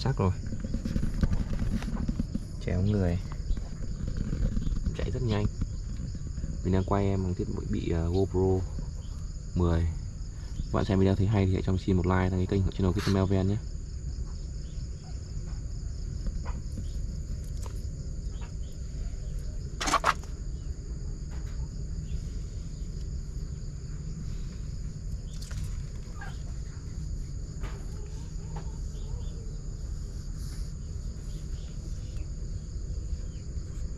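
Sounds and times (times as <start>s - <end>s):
insect chirring: 0.0s - 33.9s.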